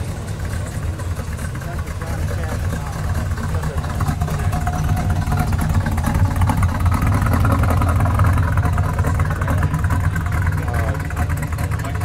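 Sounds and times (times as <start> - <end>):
pickup truck exhaust rumble: 0.0 - 12.0.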